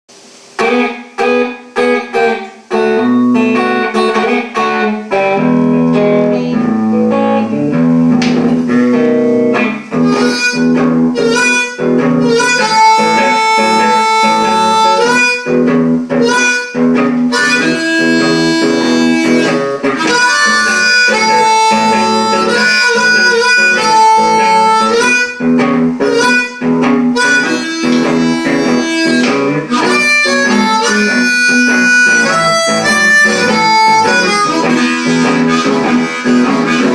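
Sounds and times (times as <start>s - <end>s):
electric guitar: 0.1s - 36.9s
blues harmonica: 0.6s - 36.9s.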